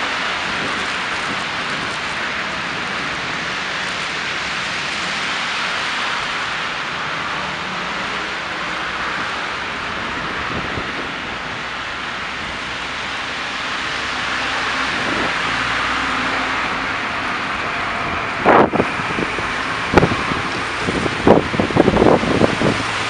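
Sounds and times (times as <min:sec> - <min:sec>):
traffic on slushy roads: 0:00.0 - 0:23.0.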